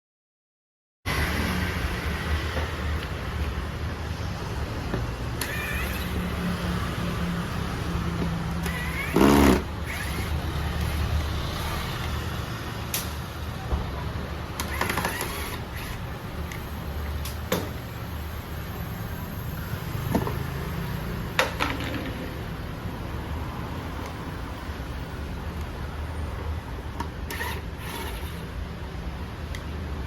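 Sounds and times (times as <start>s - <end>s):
vehicle engines rumbling: 1.1s - 30.0s.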